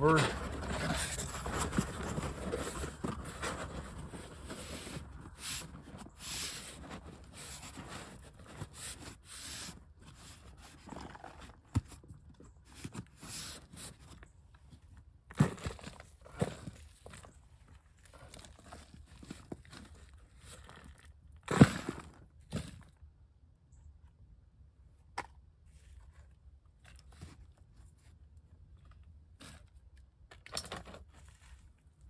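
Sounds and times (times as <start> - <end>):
rustling and shuffling: 0.0 - 21.0, 25.6 - 30.0, 30.9 - 32.0.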